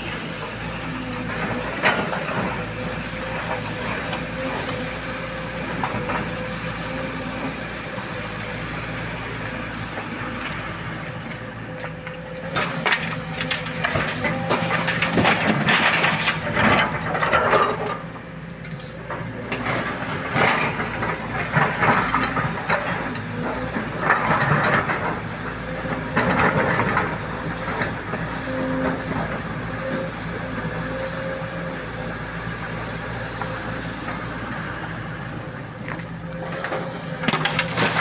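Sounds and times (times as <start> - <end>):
excavator engine and hydraulics: 0.0 - 38.0.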